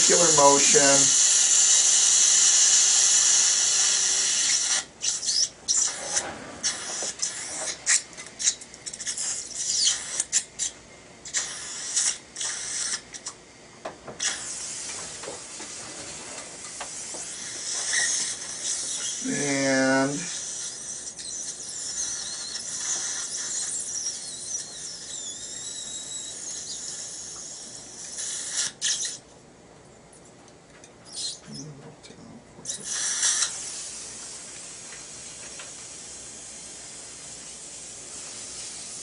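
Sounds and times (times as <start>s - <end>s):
dental handpiece high hiss: 0.0s - 13.4s, 14.2s - 15.8s, 16.6s - 29.2s, 32.7s - 39.0s
surgical suction hissing: 0.0s - 13.4s, 14.2s - 29.2s, 31.1s - 31.5s, 32.6s - 39.0s.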